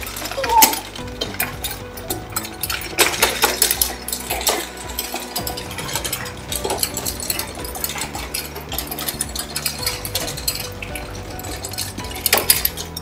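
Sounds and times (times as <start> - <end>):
wagon rattling over cobblestones: 0.0 - 13.0.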